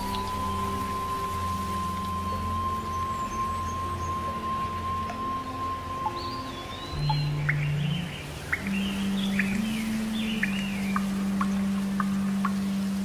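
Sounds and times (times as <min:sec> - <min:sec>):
birds chirping: 0:00.0 - 0:13.0
low musical drone: 0:00.0 - 0:13.0
soft steady hiss: 0:00.0 - 0:13.0.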